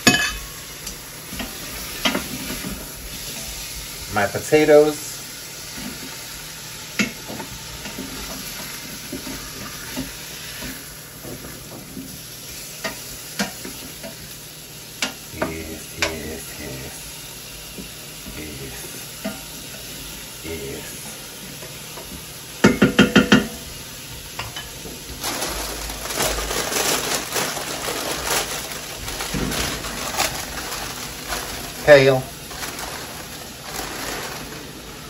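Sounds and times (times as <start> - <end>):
food sizzling in a pot: 0.0 - 35.0.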